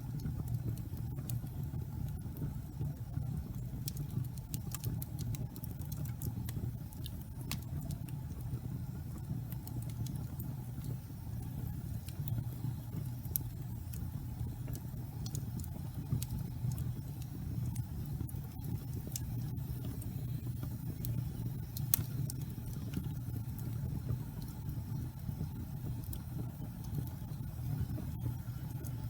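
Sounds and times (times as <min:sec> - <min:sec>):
crackles and pops of logs: 0:00.0 - 0:29.0
wood fire burning: 0:00.0 - 0:29.0.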